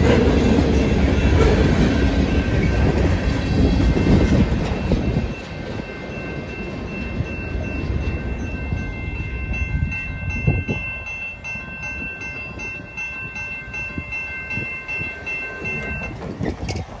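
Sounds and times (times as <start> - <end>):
freight train rumble: 0.0 - 17.0
railroad crossing bell ringing: 0.0 - 17.0.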